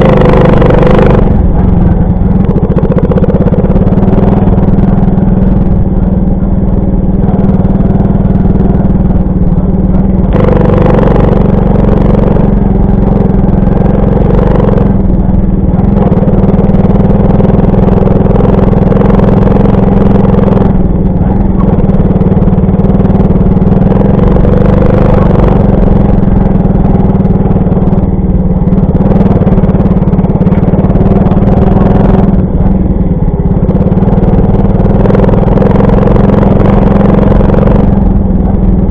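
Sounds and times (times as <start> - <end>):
moped engine running: 0.0 - 38.9
rushing wind noise: 0.0 - 38.9.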